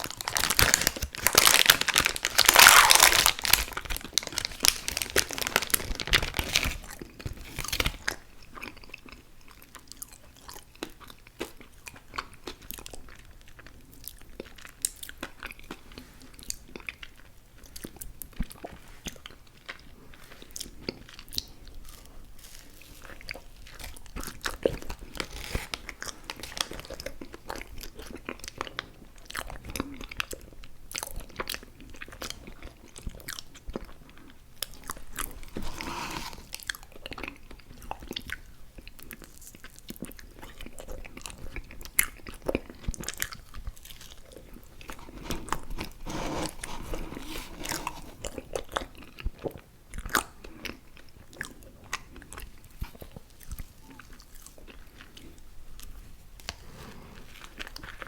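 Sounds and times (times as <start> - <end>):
mouth chewing sticky candy: 0.0 - 58.0.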